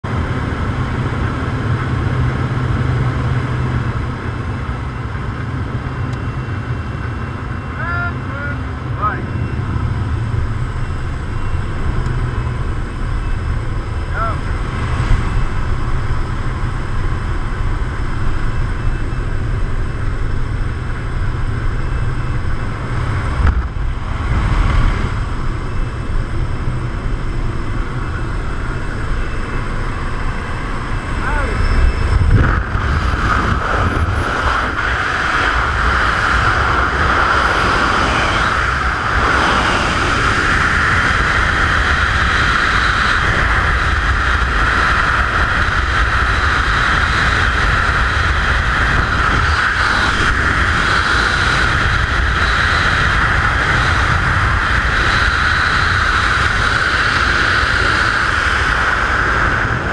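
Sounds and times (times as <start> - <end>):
plane engine and propeller hum: 0.0 - 59.9
wind buffeting microphone: 0.0 - 59.9
wind rushing: 8.6 - 59.9.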